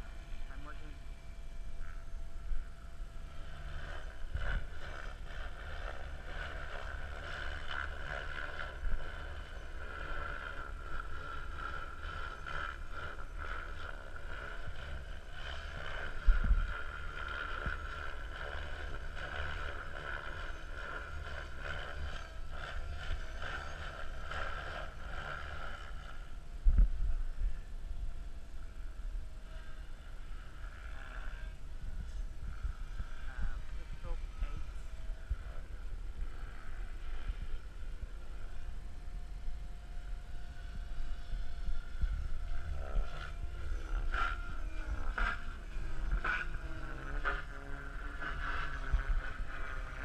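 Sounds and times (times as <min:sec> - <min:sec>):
rc helicopter rotor whine: 0:00.0 - 0:50.0
wind rumble on microphone: 0:00.0 - 0:50.0.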